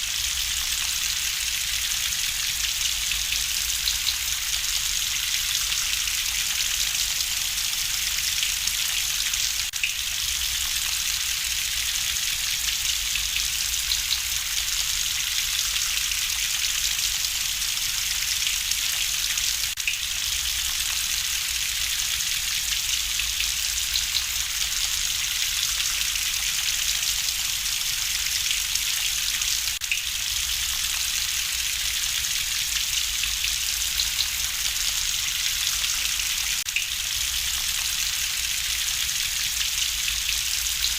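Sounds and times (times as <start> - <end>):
rain hiss: 0.0 - 40.9.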